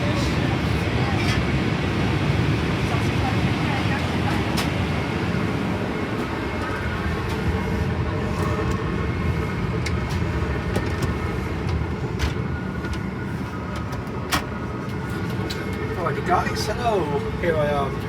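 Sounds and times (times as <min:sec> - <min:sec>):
airplane cabin roar: 0:00.0 - 0:18.0.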